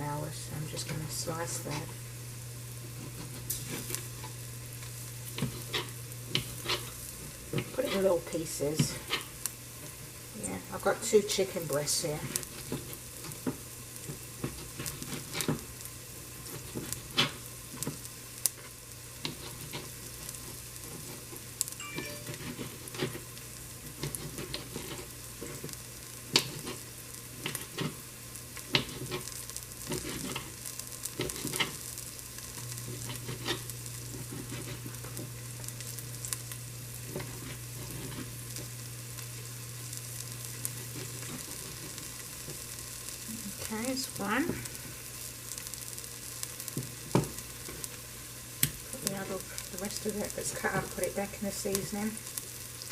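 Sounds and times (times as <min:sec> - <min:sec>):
low steady hum: 0:00.0 - 0:52.9
vegetables sizzling in oil: 0:00.0 - 0:52.9.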